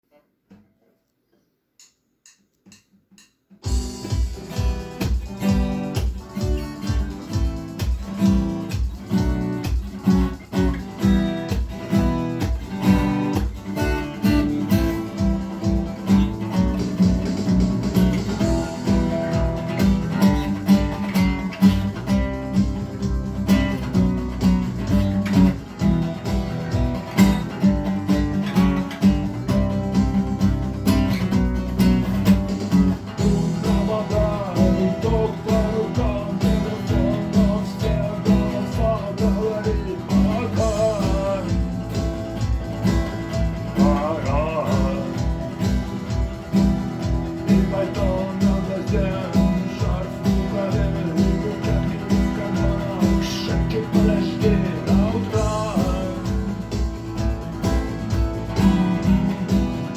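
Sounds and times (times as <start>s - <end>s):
acoustic guitar strumming: 2.5s - 59.9s.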